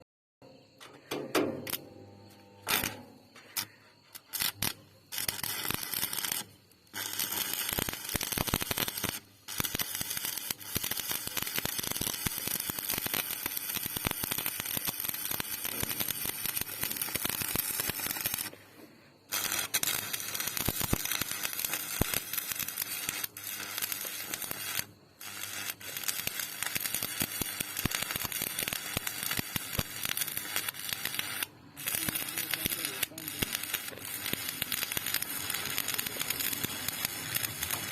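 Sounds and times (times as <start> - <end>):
welding arc crackling: 2.6 - 18.6, 19.3 - 37.9.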